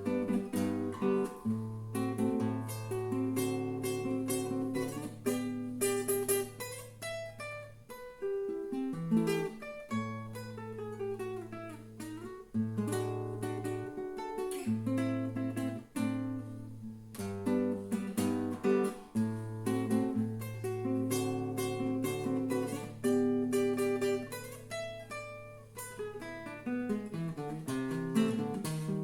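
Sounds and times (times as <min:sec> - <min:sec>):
acoustic guitar fingerpicking: 0:00.0 - 0:29.0.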